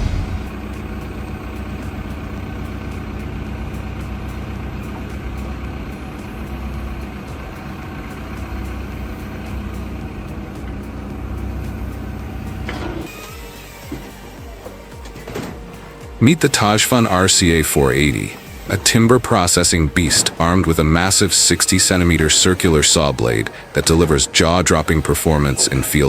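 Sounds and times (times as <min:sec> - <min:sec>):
heavy machine engine droning: 0:00.0 - 0:26.0.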